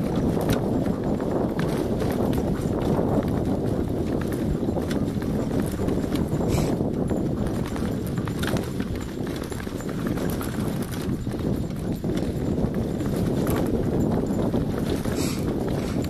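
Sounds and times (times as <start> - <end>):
dogs' rhythmic footfalls: 0.0 - 16.0
rumble of travel on dirt track: 0.0 - 16.0.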